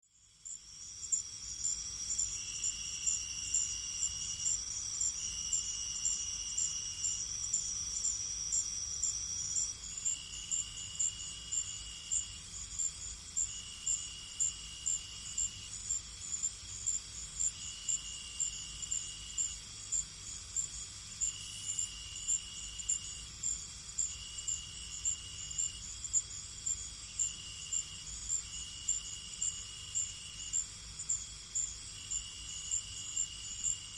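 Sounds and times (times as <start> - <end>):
continuous high cricket trill: 0.0 - 33.9
lower cricket trills: 0.1 - 33.9
high cricket chirp: 0.2 - 33.9.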